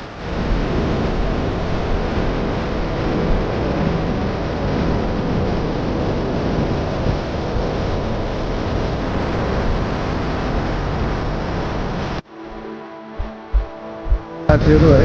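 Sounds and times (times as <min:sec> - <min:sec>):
waterfall rushing and crashing: 0:00.0 - 0:12.6.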